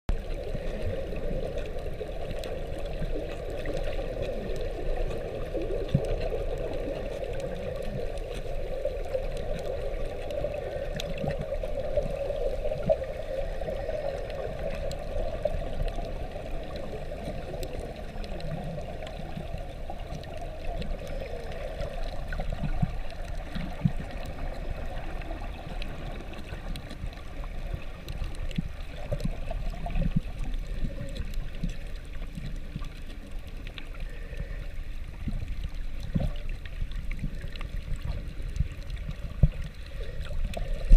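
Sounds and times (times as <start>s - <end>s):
faint clicks: 0.1s - 40.9s
underwater rushing: 0.1s - 40.9s.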